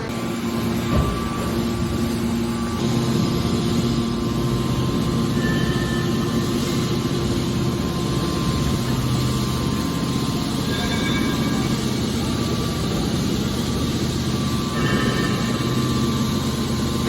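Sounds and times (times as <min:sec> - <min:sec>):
hydraulic baler motor whining: 0:00.0 - 0:17.0.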